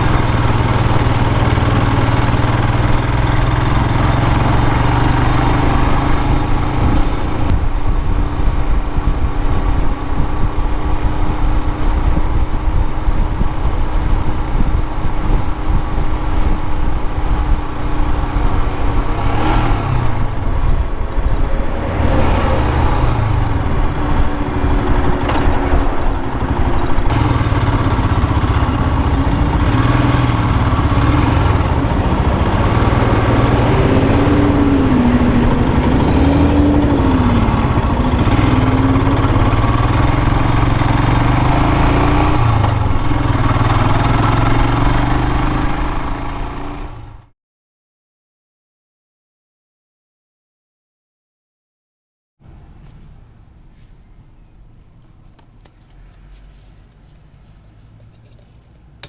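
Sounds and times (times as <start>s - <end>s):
motorcycle engine running: 0.0s - 47.3s
wind and road noise: 0.0s - 47.3s, 52.4s - 59.0s.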